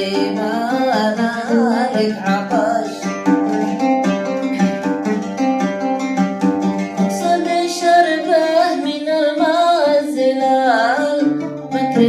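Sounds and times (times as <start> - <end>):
plucked string melody: 0.0 - 12.0.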